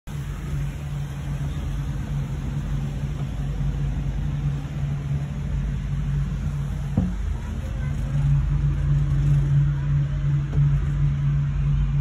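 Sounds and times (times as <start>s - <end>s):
cable car hum and rumble: 0.1s - 12.0s.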